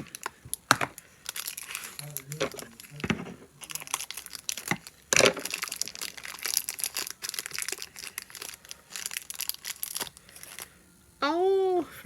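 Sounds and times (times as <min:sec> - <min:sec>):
packaging wrapper crinkling: 0:00.0 - 0:10.8.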